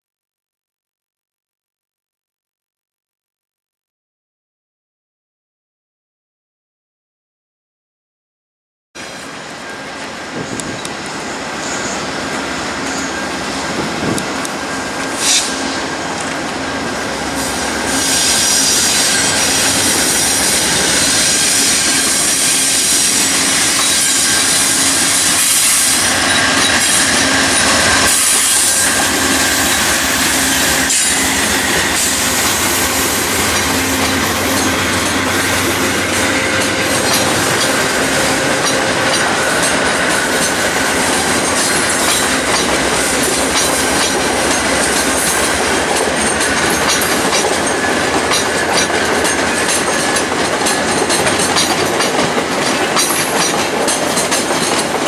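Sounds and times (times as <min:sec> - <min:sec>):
train wheels squealing and clicking: 0:09.0 - 0:55.0
diesel locomotive engine running: 0:09.4 - 0:55.0.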